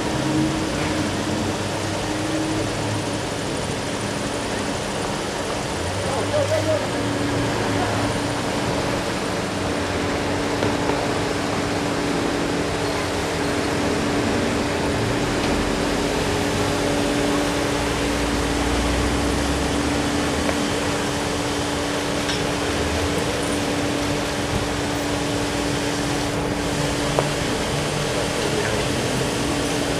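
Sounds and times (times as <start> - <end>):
street traffic noise: 0.0 - 29.9.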